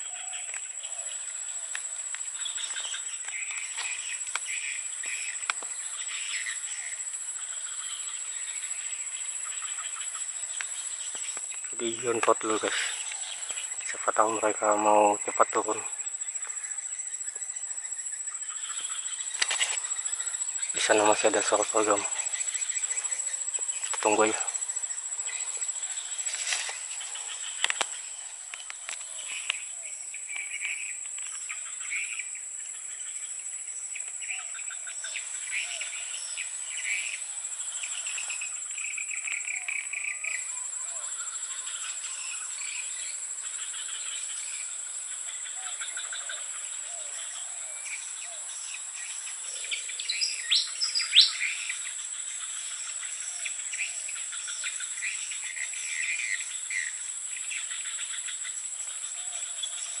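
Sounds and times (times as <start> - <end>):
birds chirping: 0.0 - 60.0
insects and crickets whining: 0.0 - 60.0.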